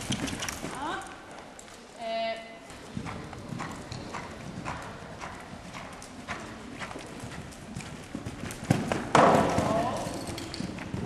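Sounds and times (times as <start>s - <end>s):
horse hoofbeats cantering: 0.0s - 1.1s, 2.7s - 11.0s.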